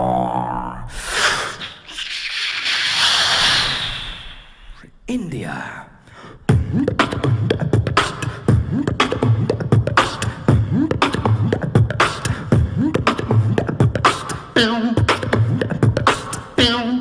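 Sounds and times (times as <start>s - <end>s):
person beatboxing: 0.0s - 3.8s, 6.4s - 17.0s.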